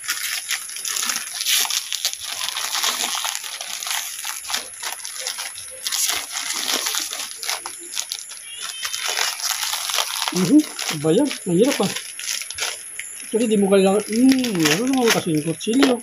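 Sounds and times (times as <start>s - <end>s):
plastic packet crinkling: 0.0s - 16.0s.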